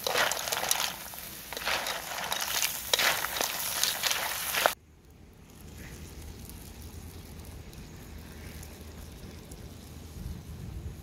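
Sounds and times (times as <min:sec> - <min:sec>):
wood fire crackling: 0:00.0 - 0:10.7
fire low rumble: 0:00.0 - 0:11.0.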